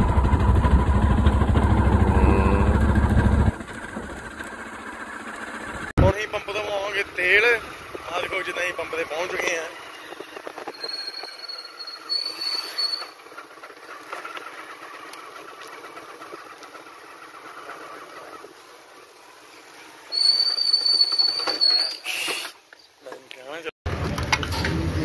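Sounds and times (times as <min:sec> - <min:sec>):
motorcycle riding: 0:00.0 - 0:21.6, 0:23.9 - 0:25.0
brakes squealing: 0:00.0 - 0:23.2
wind and road noise: 0:00.0 - 0:25.0.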